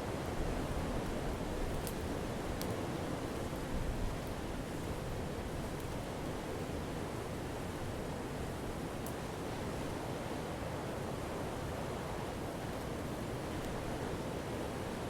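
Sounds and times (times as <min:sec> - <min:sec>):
fire crackles: 0:00.2 - 0:09.9, 0:12.3 - 0:14.8.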